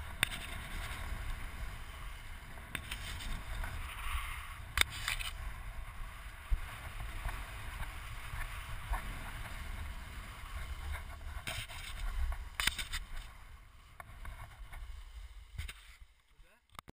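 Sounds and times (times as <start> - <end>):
wind rumble on microphone: 0.0 - 15.7
snowboard scraping over snow: 0.0 - 16.1.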